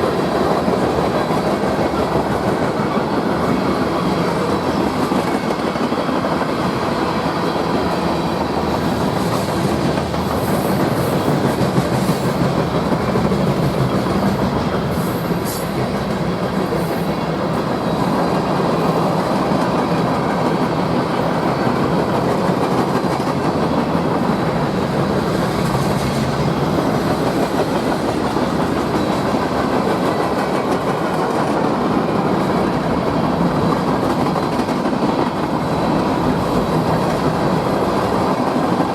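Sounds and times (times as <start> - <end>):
freight train wheels on rail: 0.0 - 38.9.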